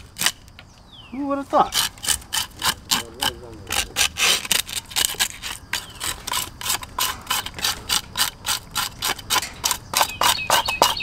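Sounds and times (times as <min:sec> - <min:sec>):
fish scaler scraping scales: 0:01.6 - 0:11.0.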